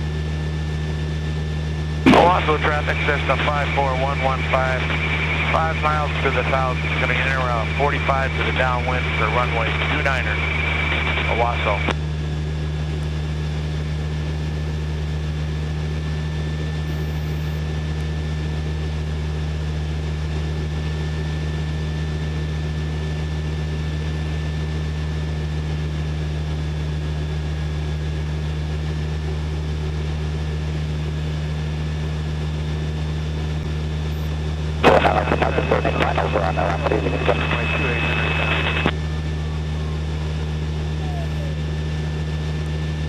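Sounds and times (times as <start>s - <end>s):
light aircraft engine and propeller: 0.0s - 43.0s.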